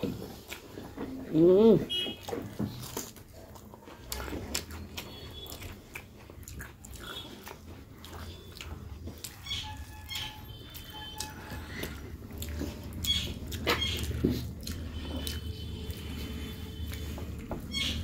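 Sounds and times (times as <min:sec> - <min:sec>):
person chewing and lip-smacking: 0:00.0 - 0:18.0.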